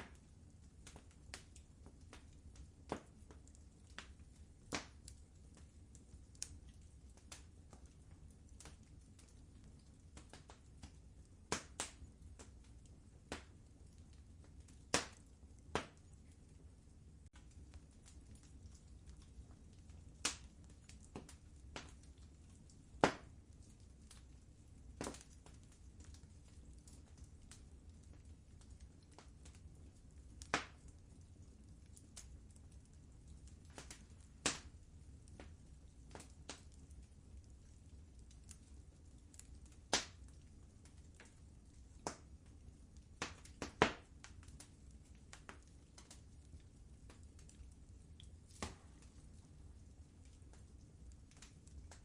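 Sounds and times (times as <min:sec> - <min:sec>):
fire crackling: 0:00.0 - 0:52.0.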